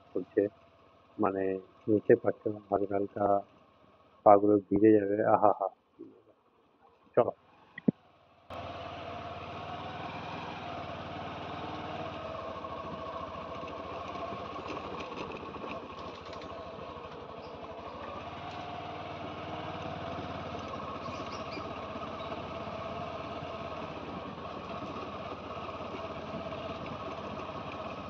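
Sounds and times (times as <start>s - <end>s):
small motorcycle engine: 0.0s - 5.5s, 7.4s - 28.0s.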